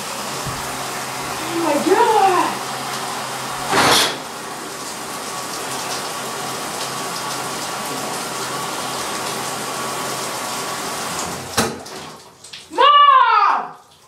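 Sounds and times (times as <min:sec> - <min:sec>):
shower water spraying: 0:00.0 - 0:12.9.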